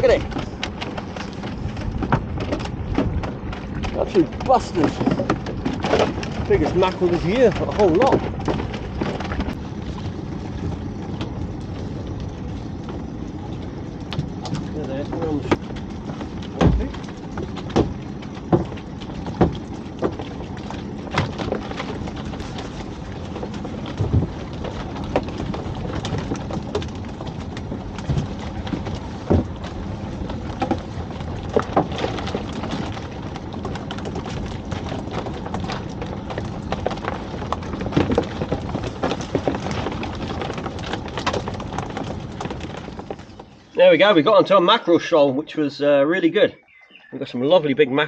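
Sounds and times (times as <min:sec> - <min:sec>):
knocks against hull: 0:00.0 - 0:11.4, 0:14.1 - 0:43.6
fish flapping in a boat: 0:00.0 - 0:44.4
sea noise: 0:00.0 - 0:48.0
wind: 0:00.0 - 0:48.0.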